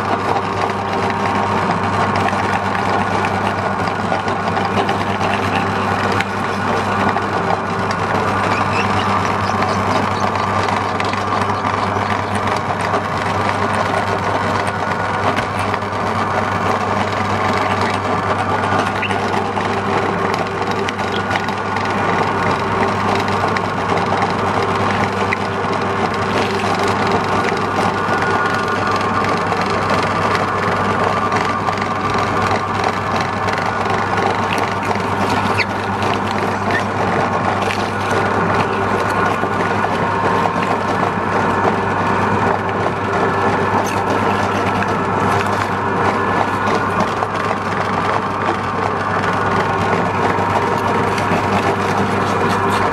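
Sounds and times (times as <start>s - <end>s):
meat grinder humming: 0.0s - 52.9s
peppers crackling in grinder: 0.0s - 52.9s.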